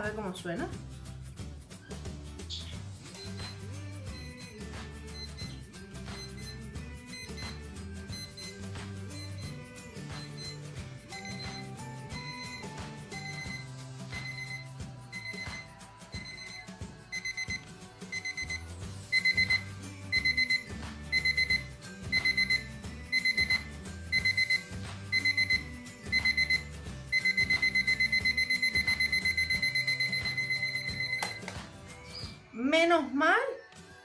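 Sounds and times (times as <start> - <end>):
alarm clock beeping: 3.2 - 31.5.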